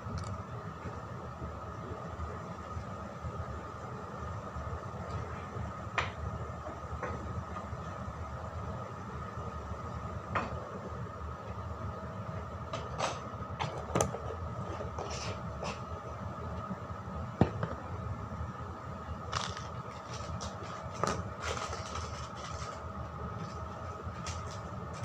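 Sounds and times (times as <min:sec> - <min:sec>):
low kitchen rumble and hum: 0:00.0 - 0:25.0.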